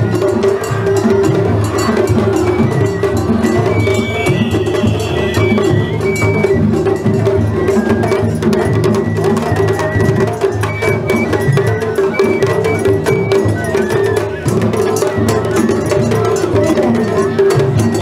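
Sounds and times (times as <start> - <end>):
high bamboo flute: 0.0 - 18.0
taiko drums: 0.0 - 18.0.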